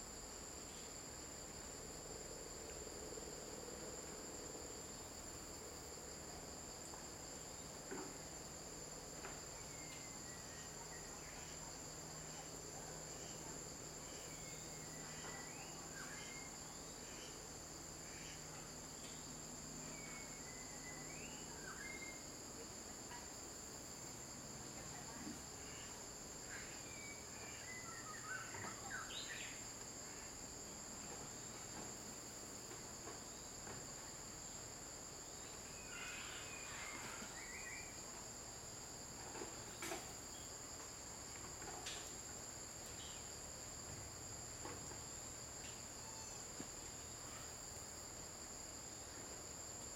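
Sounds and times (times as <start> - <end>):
insect chirping calls: 0.0 - 49.9
insects droning: 0.0 - 49.9.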